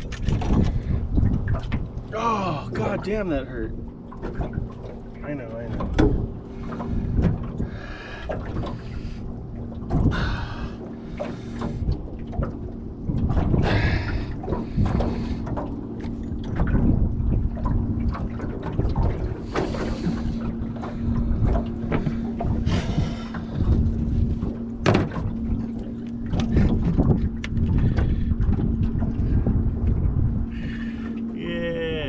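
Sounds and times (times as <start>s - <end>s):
steady low hum: 0.0s - 32.0s
water slapping against boat hull: 0.0s - 32.0s.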